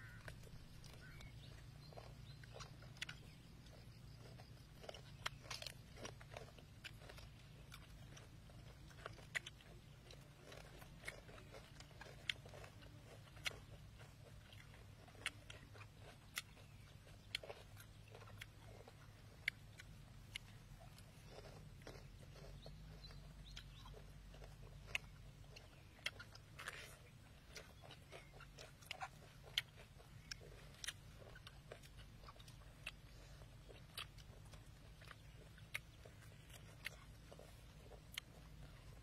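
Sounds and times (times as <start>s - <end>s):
chewing and crunching food: 0.0s - 39.0s
steady low hum: 0.0s - 39.0s.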